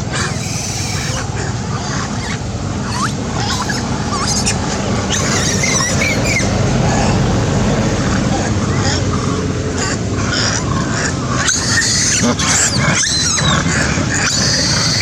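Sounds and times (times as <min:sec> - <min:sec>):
baby monkey squeaking: 0:00.1 - 0:07.2, 0:09.8 - 0:15.0.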